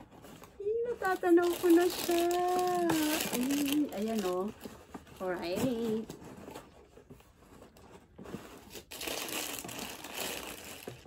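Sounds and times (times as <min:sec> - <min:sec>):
tissue paper rustling and crinkling: 0:00.0 - 0:11.0.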